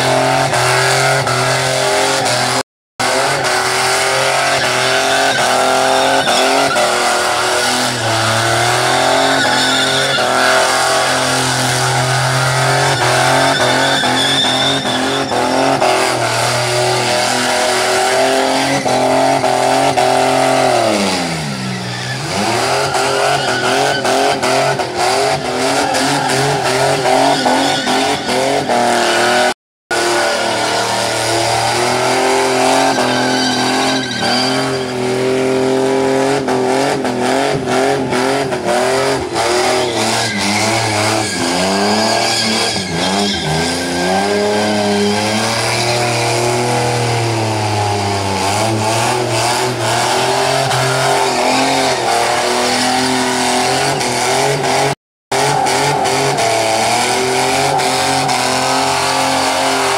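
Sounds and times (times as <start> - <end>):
car engine revving high: 0.0 - 59.9.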